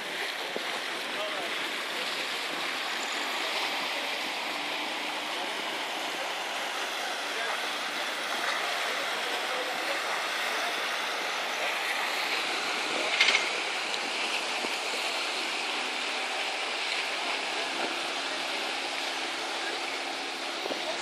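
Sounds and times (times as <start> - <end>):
sea water rushing: 0.0 - 21.0.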